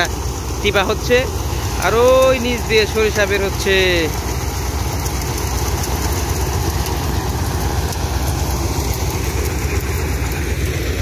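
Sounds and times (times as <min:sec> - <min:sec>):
engine rumble: 0:00.0 - 0:11.0
threshing drum whirring: 0:00.0 - 0:11.0.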